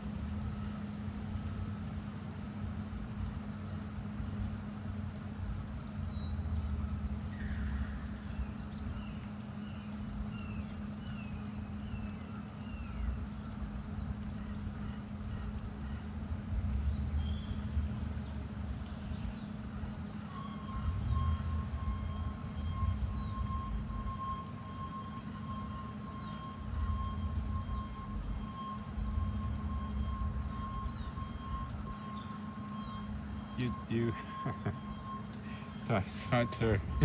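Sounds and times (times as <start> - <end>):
steady low hum: 0.0 - 37.0
birds chirping: 5.8 - 37.0.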